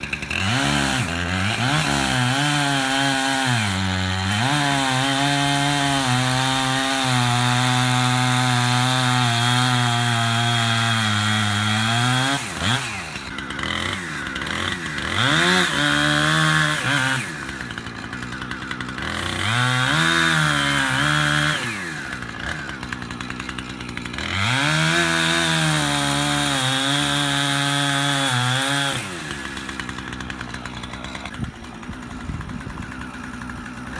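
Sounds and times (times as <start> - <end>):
chainsaw cutting and revving: 0.0 - 33.9.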